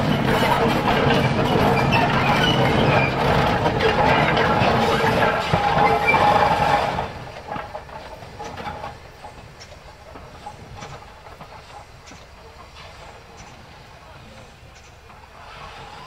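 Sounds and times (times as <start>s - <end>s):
steam locomotive passing: 0.0s - 16.0s
train wheels clicking over rail joints: 0.0s - 16.0s.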